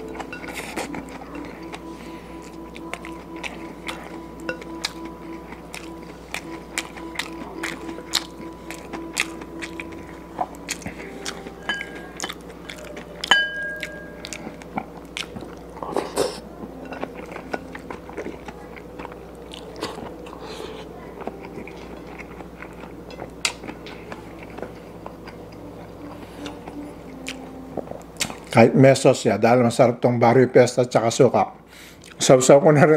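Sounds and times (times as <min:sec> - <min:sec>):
person chewing crunchy food: 0:00.0 - 0:28.6.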